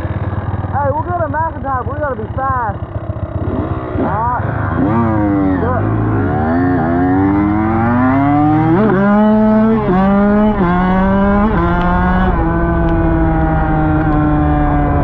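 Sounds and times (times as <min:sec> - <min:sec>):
dirt bike engine accelerating: 0:00.0 - 0:15.0.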